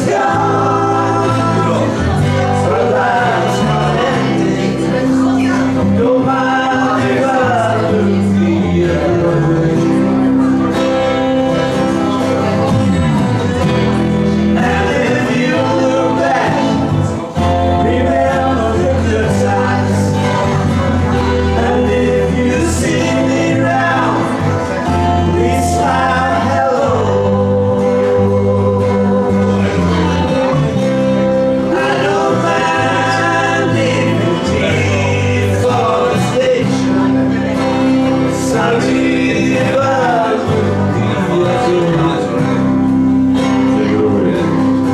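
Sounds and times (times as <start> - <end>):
live band playing: 0.0 - 44.9
men singing: 0.0 - 44.9.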